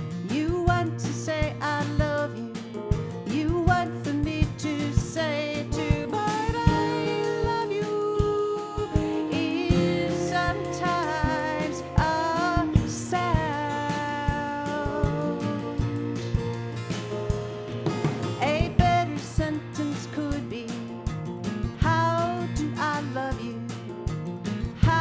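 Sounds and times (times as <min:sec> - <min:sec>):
acoustic guitars: 0:00.0 - 0:25.0
woman singing with vibrato: 0:00.3 - 0:02.6, 0:03.3 - 0:16.7, 0:18.4 - 0:20.8, 0:21.8 - 0:23.7, 0:24.8 - 0:25.0.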